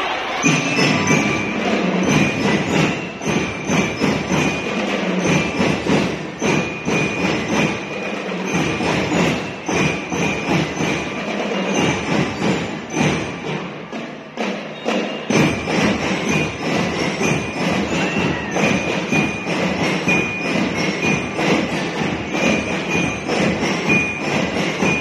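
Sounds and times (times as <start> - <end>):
drums beating march rhythm: 0.0 - 25.0
ringing bell-lyre notes: 0.2 - 25.0.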